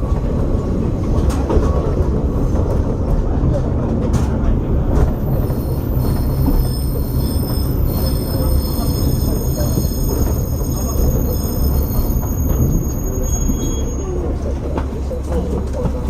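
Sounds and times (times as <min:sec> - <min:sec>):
railcar engine rumble: 0:00.0 - 0:16.0
wheels on the track: 0:00.0 - 0:16.0.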